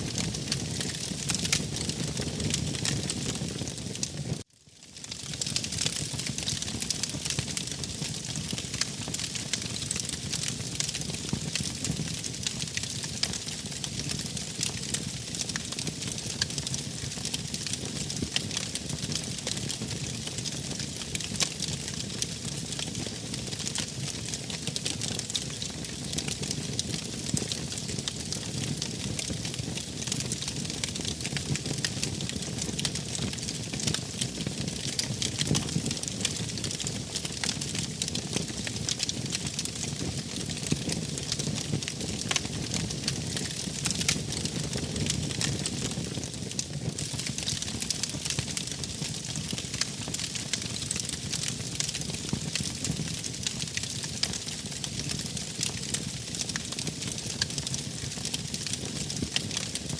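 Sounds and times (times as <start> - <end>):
fire crackles and pops: 0.0 - 59.9.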